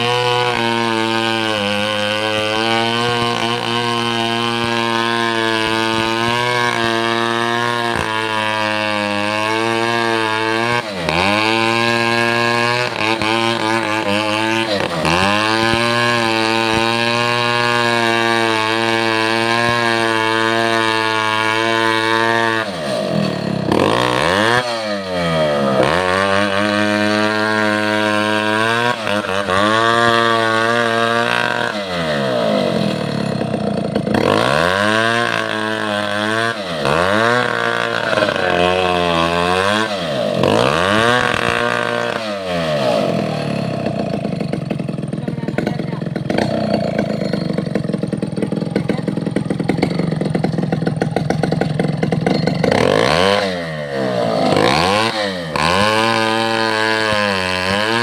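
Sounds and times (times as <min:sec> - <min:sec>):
two-stroke chainsaw engine: 0:00.0 - 0:58.0.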